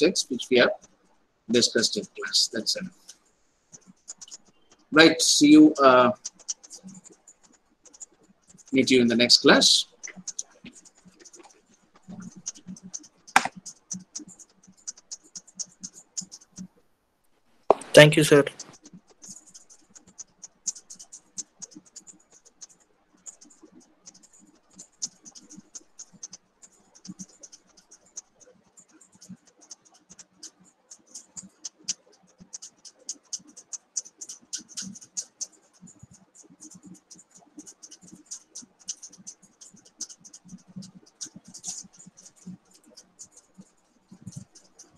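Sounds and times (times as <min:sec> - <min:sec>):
faint clicks and crackles: 0:00.0 - 0:44.9.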